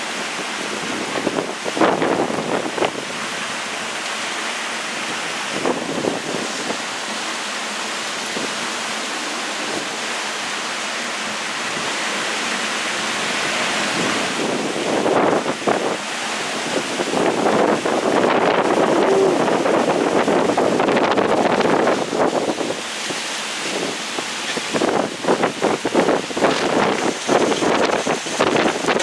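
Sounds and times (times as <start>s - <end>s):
wind and rain rushing hiss: 0.0s - 29.0s
wind gusts buffeting microphone: 0.0s - 29.0s.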